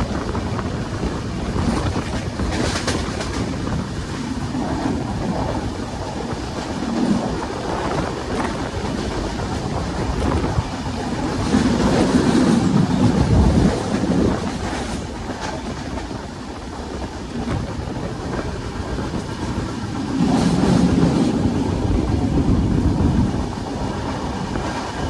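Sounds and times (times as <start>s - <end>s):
train rumbling on rails: 0.0s - 25.0s
train wheel clatter: 0.0s - 25.0s.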